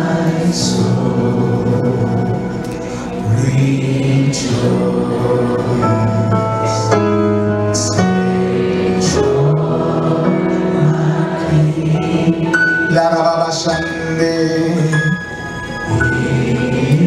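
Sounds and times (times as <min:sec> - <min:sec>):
slow worship music: 0:00.0 - 0:17.0
voices singing along: 0:00.0 - 0:17.0.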